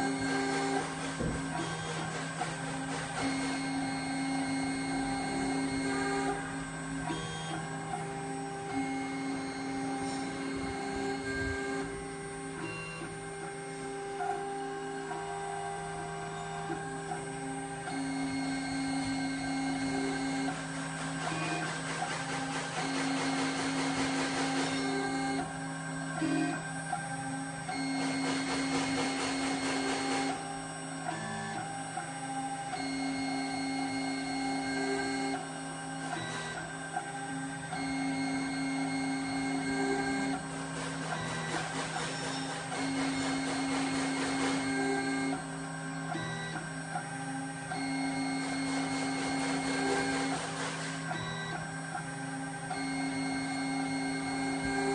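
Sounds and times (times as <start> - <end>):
router spindle running: 0.0 - 26.2, 27.1 - 54.9
stepper motors whining: 0.0 - 54.9.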